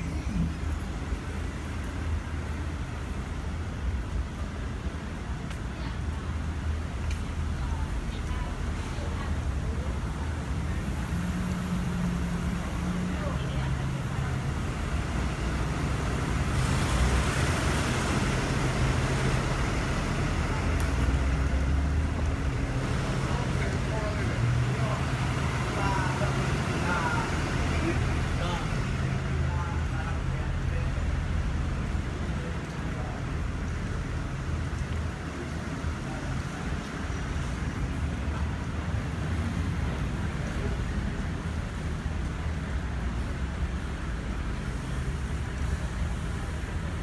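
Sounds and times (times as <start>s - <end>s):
traffic rumble: 0.0s - 47.0s.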